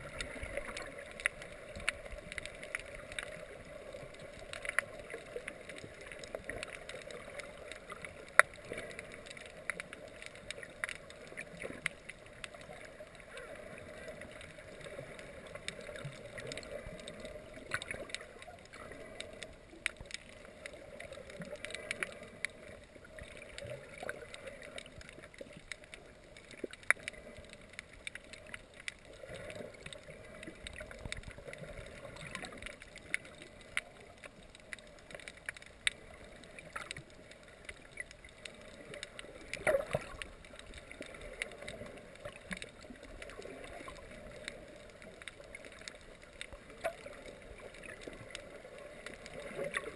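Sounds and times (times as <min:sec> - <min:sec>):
sharp clicks and crackles: 0:00.0 - 0:49.9.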